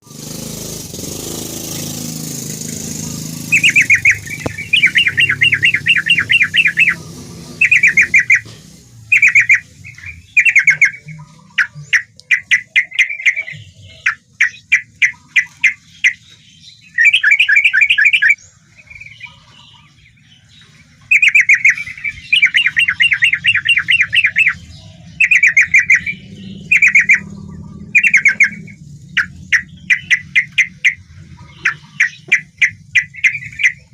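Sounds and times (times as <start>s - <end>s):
bird singing chattering phrases: 0.0s - 33.9s.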